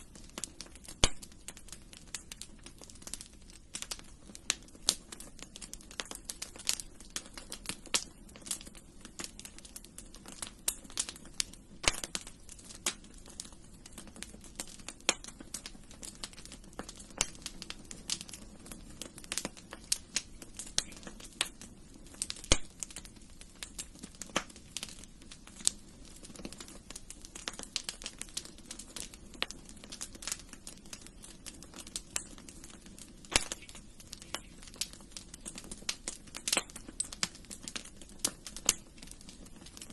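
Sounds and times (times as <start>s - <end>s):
low steady fire roar: 0.0s - 39.9s
wood fire crackling and popping: 0.0s - 39.9s.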